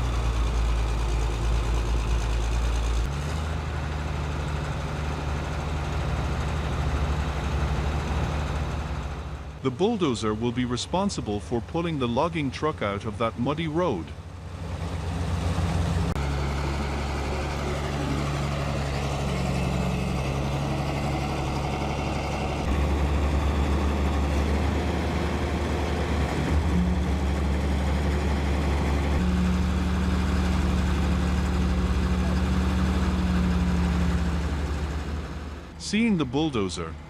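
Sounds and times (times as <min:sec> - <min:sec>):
heavy diesel engines running: 0:00.0 - 0:37.0.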